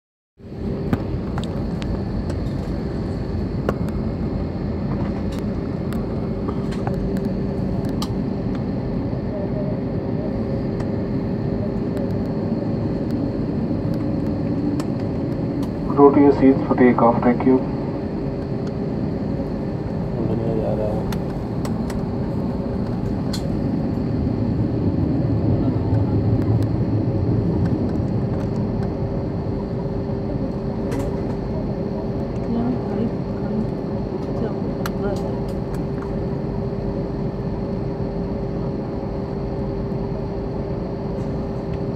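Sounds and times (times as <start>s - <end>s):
airliner cabin engine hum: 0.4s - 41.9s.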